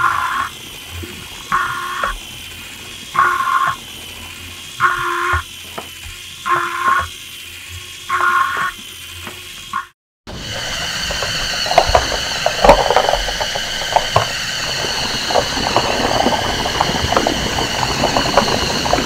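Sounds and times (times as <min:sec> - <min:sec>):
toy motor and gears running: 0:00.0 - 0:19.0.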